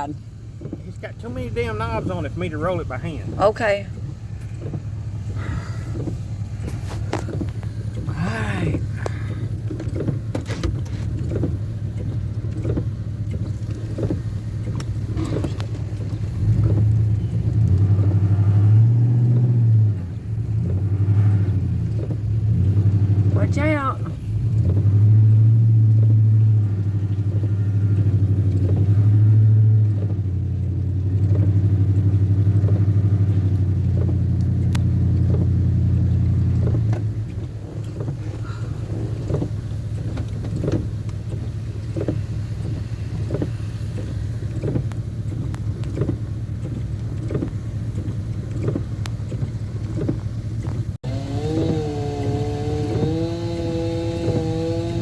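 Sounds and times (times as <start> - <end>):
engine idling with faint tick: 0.0 - 55.0
vehicle engine working hard: 0.0 - 55.0.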